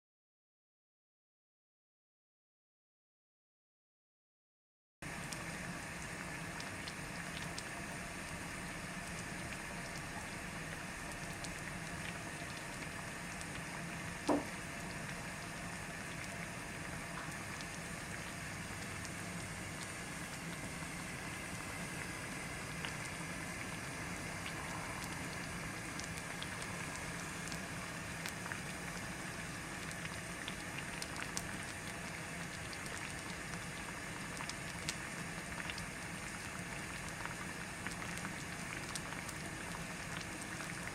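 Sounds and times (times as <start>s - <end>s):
stew bubbling in a pot: 5.0s - 40.9s.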